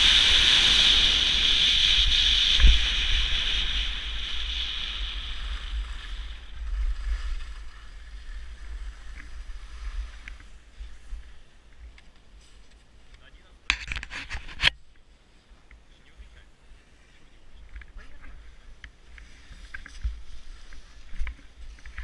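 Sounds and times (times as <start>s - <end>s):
skis sliding on packed snow: 0.0s - 11.7s, 15.4s - 22.0s.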